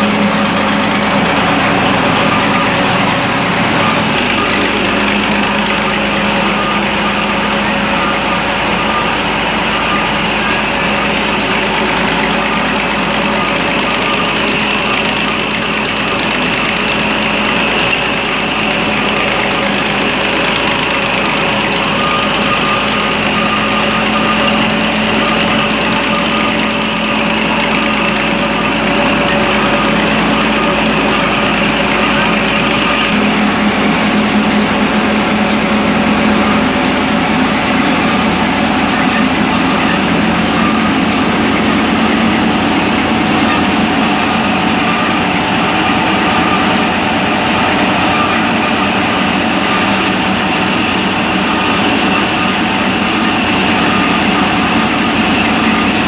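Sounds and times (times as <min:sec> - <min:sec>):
ginning machine droning: 0:00.0 - 0:56.0.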